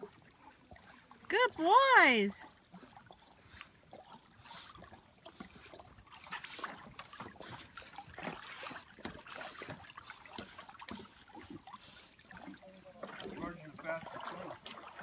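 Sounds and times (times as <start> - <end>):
dogs splashing in water: 0.0 - 15.0.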